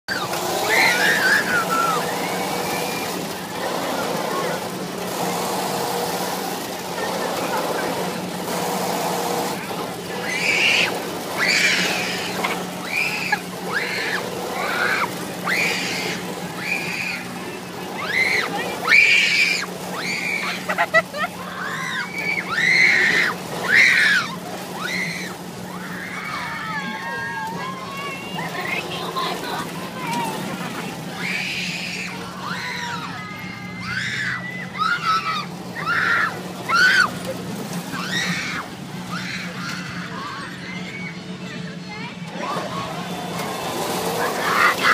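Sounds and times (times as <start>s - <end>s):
ride machinery humming: 0.0s - 44.9s
riders screaming: 0.1s - 41.4s, 42.3s - 44.9s.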